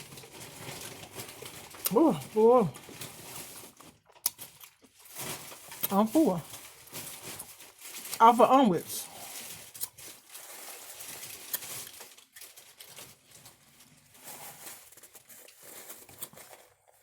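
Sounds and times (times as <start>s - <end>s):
food packaging crinkling: 0.0s - 17.0s.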